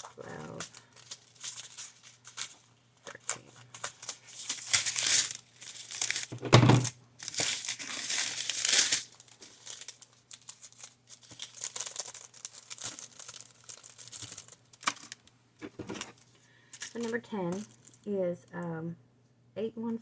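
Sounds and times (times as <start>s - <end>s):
plastic crinkling and rustling: 0.0s - 18.1s.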